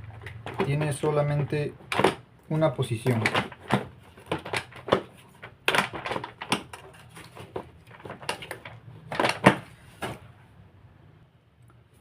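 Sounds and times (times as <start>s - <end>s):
plastic parts knocking and clicking: 0.0s - 10.2s.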